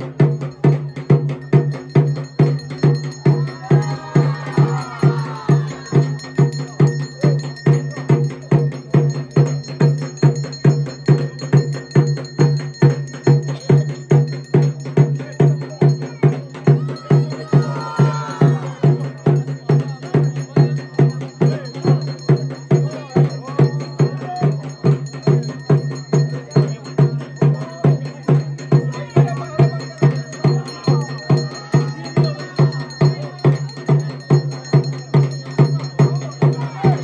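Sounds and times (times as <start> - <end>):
faint voices: 0.0 - 11.8, 13.2 - 37.0
metal bell struck steadily: 0.0 - 37.0.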